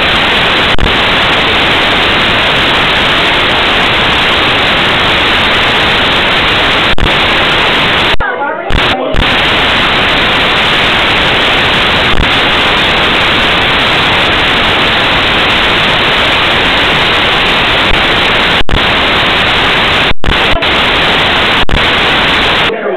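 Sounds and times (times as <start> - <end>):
loud static hiss: 0.0 - 22.9.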